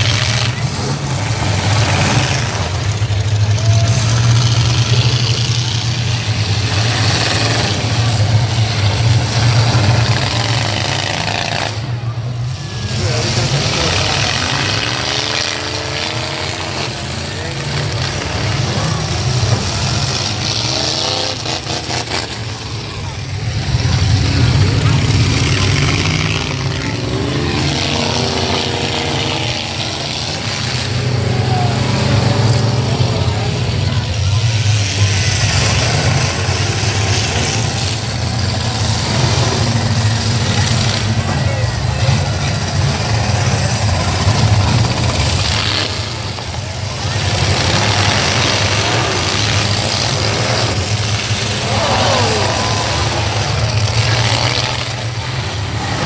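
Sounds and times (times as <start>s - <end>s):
engine revving: 0.0s - 56.0s
truck engines rumbling: 0.0s - 56.0s.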